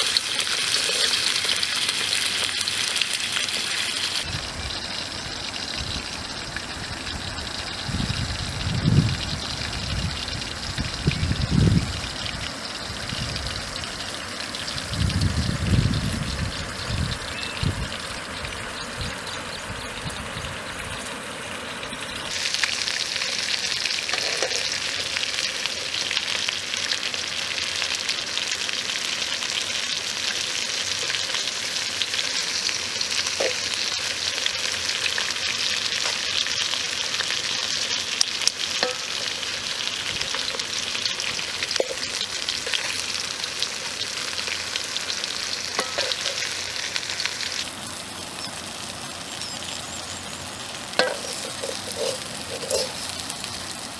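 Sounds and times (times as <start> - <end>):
fish sizzling in hot oil: 0.0 - 53.9.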